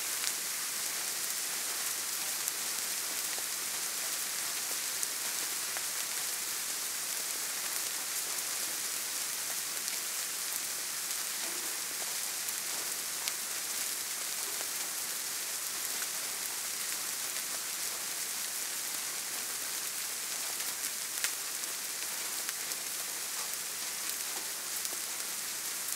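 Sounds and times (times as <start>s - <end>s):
soft rain falling: 0.0s - 25.9s.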